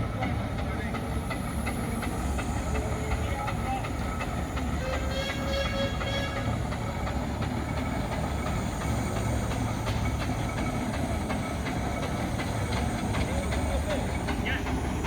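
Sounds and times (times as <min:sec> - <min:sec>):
steam engine rumbling: 0:00.0 - 0:15.0.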